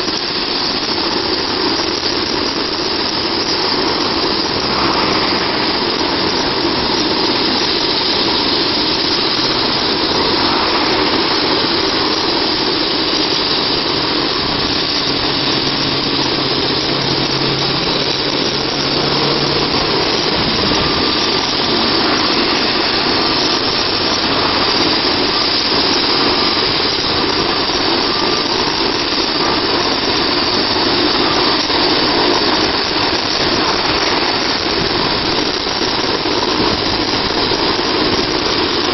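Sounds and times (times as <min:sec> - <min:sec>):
helicopter engine and rotor idling: 0:00.0 - 0:38.9.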